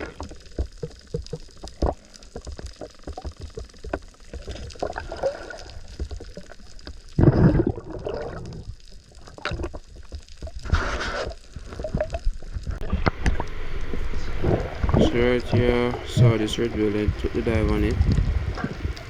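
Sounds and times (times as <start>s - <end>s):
rush of water: 0.0s - 19.0s
water sloshing and bubbling: 0.0s - 19.0s.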